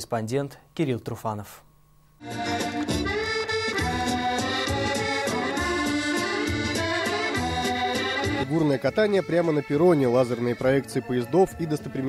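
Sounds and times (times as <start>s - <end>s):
accordion music: 2.2s - 12.0s.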